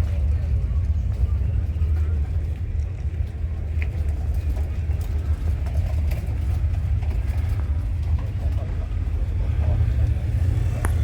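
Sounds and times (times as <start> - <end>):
faint voices: 0.0 - 11.0
low outdoor rumble: 0.0 - 11.0.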